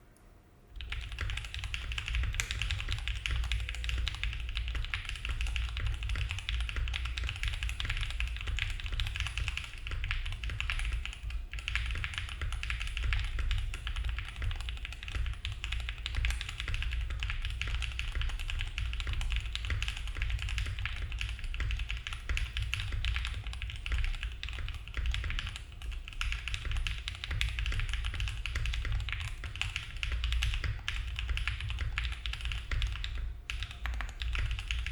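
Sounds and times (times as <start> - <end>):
fast mechanical keyboard typing: 0.8 - 34.9.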